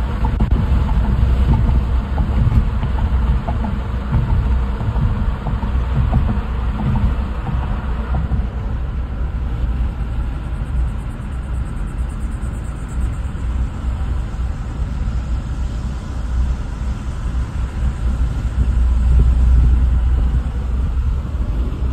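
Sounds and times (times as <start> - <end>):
car road and engine rumble: 0.0 - 21.9.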